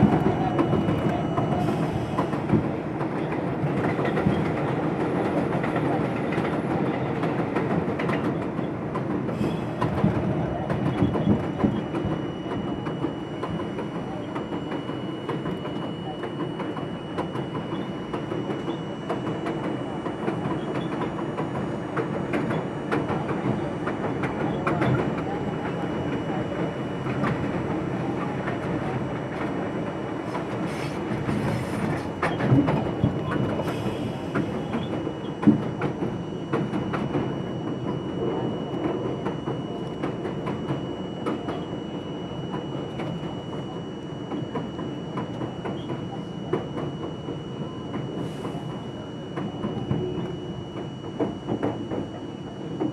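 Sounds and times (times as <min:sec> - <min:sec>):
subway train rumbling: 0:00.0 - 0:52.9.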